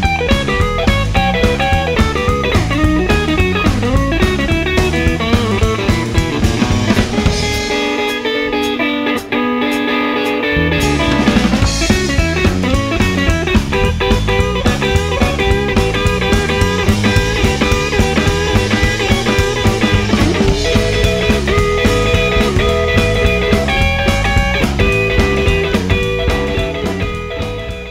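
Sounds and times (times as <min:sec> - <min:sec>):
bass guitar: 0:00.0 - 0:27.9
drum kit playing: 0:00.0 - 0:27.9
electric guitar: 0:00.0 - 0:27.9.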